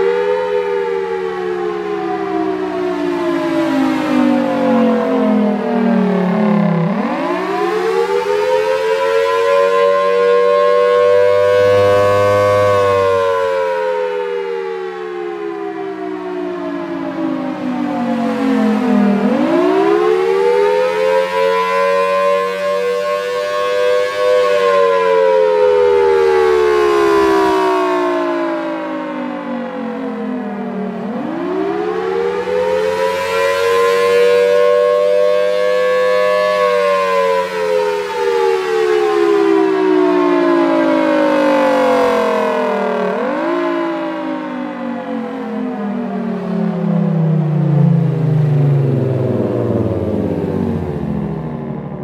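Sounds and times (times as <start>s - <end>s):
siren wailing: 0.0s - 52.0s.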